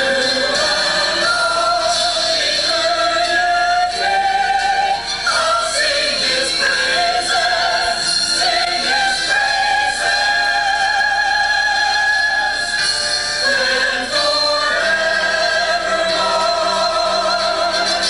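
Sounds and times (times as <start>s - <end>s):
choir singing long held notes: 0.0s - 18.0s.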